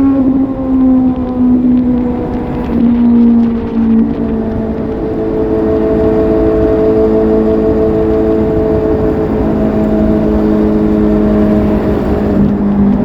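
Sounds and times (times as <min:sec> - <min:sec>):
low rushing noise: 0:00.0 - 0:13.0
motorcycle engine running: 0:00.0 - 0:13.0.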